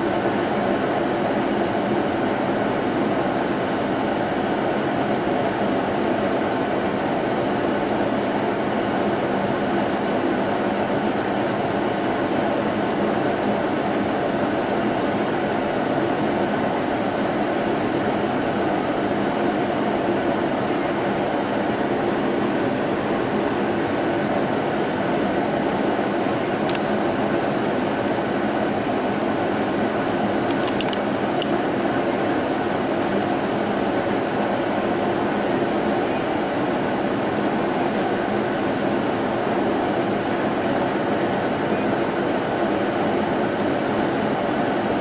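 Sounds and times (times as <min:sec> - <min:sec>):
steady machine hum and hiss: 0:00.0 - 0:45.0.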